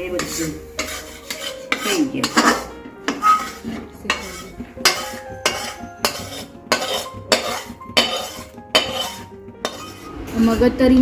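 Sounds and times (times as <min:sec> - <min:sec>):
metal spatula scraping a pan: 0:00.0 - 0:10.5.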